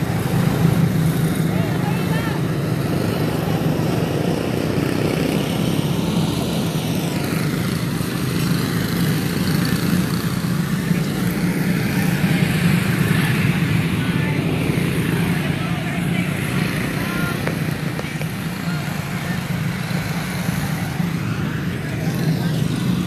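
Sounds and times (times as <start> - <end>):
small race car engines: 0.0 - 23.0.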